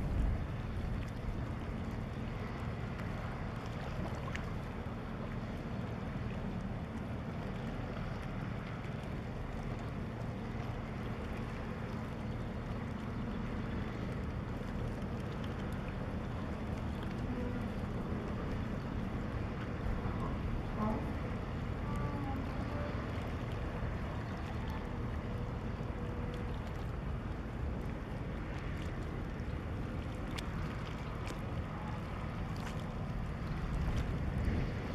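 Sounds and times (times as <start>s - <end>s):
boat diesel engine drone: 0.0s - 34.9s
wind rumble on microphone: 0.0s - 34.9s.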